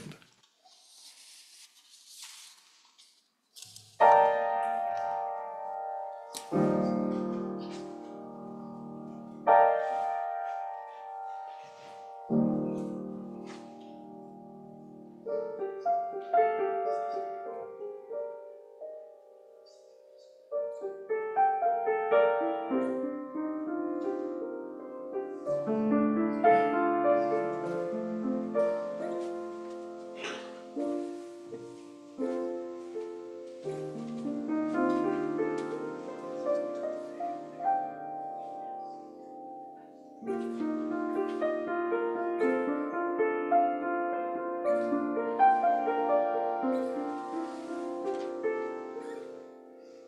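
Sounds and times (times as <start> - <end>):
solo piano music: 3.6 - 50.0.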